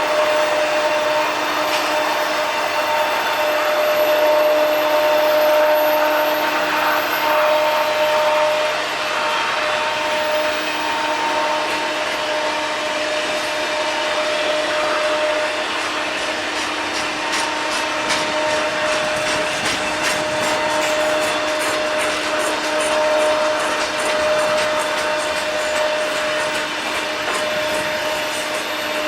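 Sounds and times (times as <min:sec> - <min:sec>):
train wheels rushing on rail: 0:00.0 - 0:29.0.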